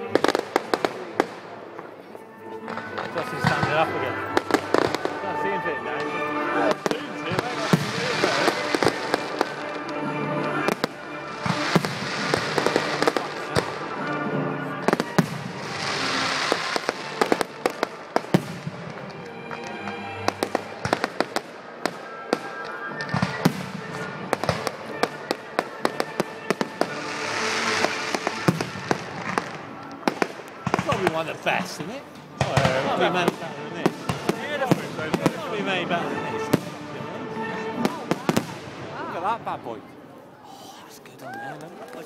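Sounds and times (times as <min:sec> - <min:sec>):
fireworks bursting and crackling: 0:00.0 - 0:01.7, 0:02.6 - 0:39.3.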